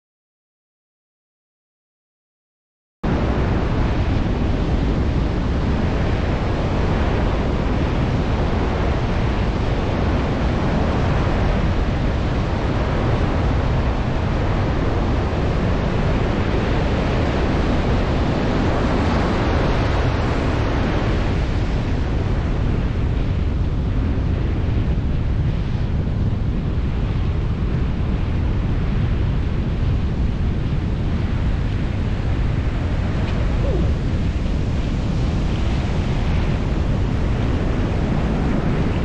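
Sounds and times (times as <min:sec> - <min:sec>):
wind rumbling on microphone: 0:03.0 - 0:39.0.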